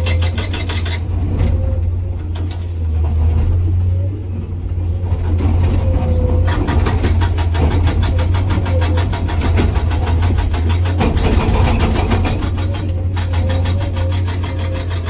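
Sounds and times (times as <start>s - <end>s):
hydraulic rock breaker hammering: 0.0s - 3.8s, 5.2s - 15.0s
excavator diesel engine running: 0.0s - 15.0s.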